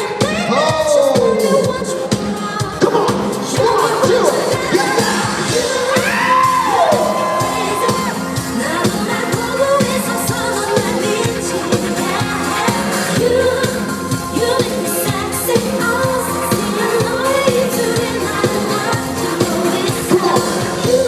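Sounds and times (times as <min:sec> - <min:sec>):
band with steady drum beat: 0:00.0 - 0:21.0
person singing: 0:00.0 - 0:21.0.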